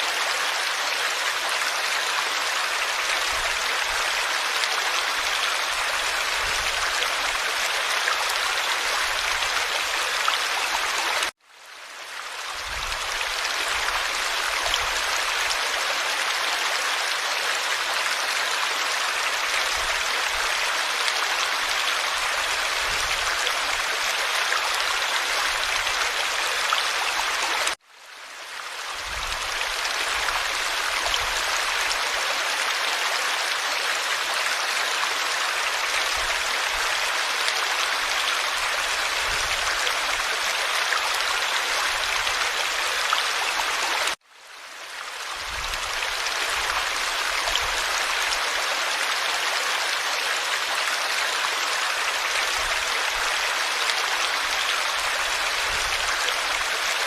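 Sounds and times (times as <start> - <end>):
stream water rushing and babbling: 0.0 - 57.0.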